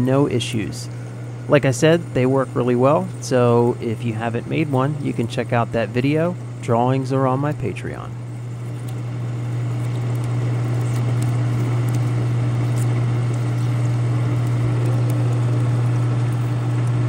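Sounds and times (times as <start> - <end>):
constant low hum: 0.0 - 17.0.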